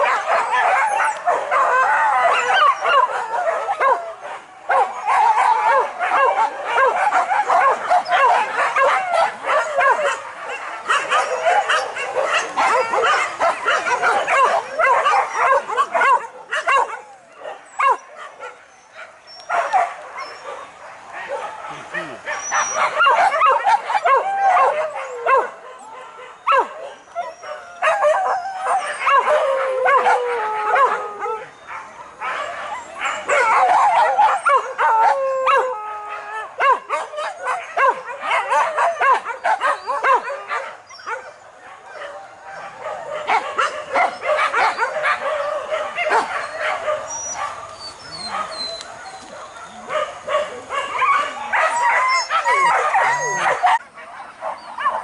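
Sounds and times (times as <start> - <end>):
dogs yelping and baying: 0.0 - 55.0.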